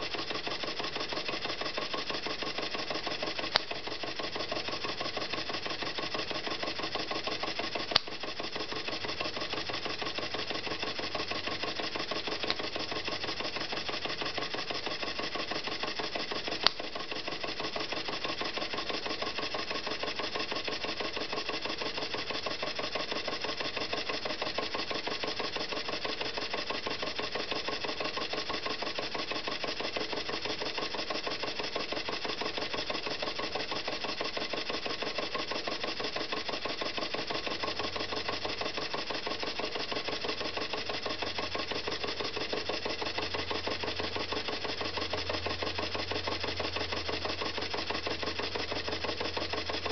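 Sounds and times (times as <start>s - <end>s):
model steam engine clattering: 0.1s - 49.9s.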